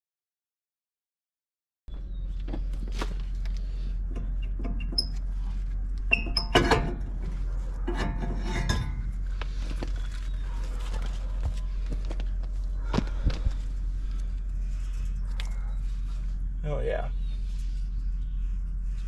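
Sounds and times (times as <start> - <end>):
steady low hum: 1.9 - 19.0.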